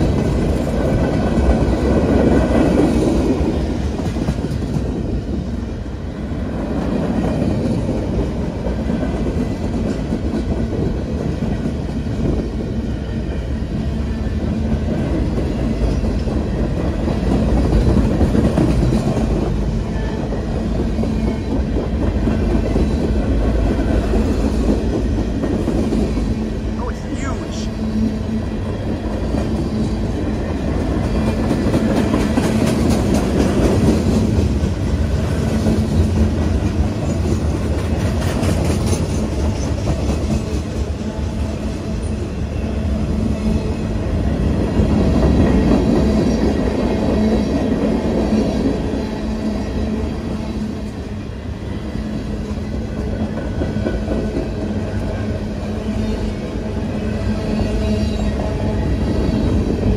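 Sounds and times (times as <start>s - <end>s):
freight train wheels rumbling: 0.0s - 26.8s, 27.7s - 59.9s.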